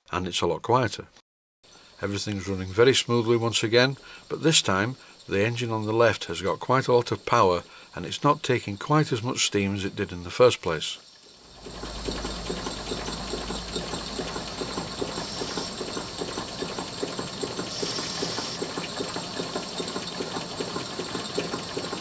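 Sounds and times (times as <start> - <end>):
steam hiss: 1.7 - 9.5, 11.2 - 22.0
model steam engines beating: 1.9 - 10.4, 11.4 - 22.0.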